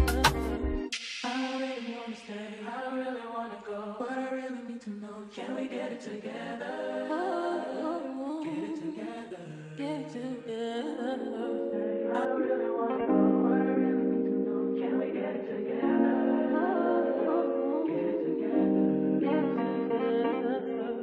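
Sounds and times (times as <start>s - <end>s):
layered vocal harmonies: 0.0s - 21.0s.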